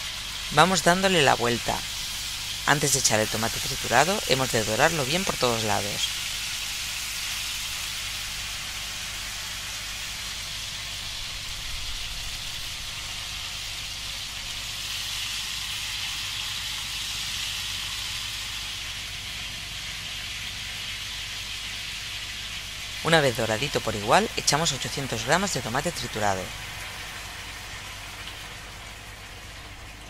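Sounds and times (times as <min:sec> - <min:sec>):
chicken frying in oil: 0:00.0 - 0:30.0.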